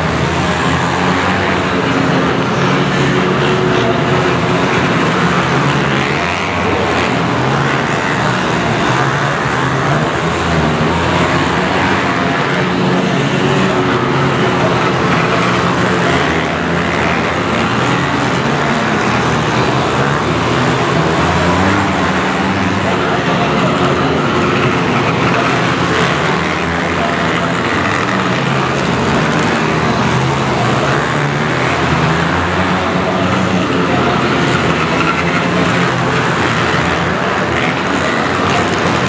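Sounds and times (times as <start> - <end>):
minibike engines racing: 0.0 - 39.0.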